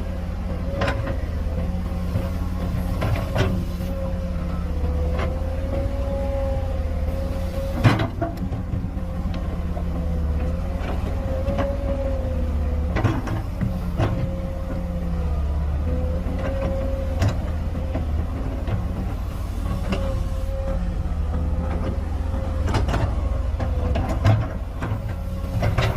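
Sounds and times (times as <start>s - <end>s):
excavator engine whining: 0.0s - 25.9s.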